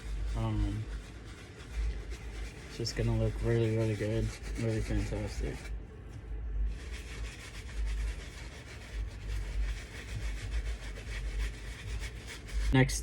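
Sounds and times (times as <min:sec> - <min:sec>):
brush scrubbing wet suede: 0:00.0 - 0:05.8, 0:06.7 - 0:12.9.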